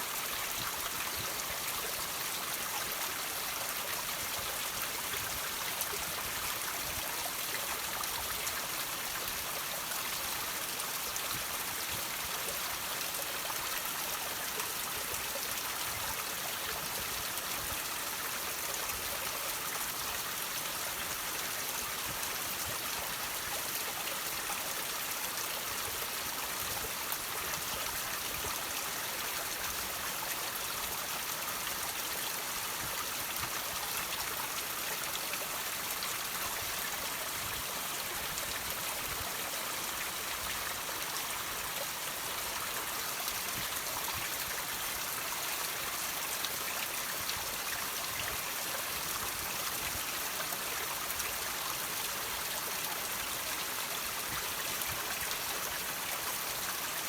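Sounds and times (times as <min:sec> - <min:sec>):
water trickling over rocks: 0:00.0 - 0:57.0.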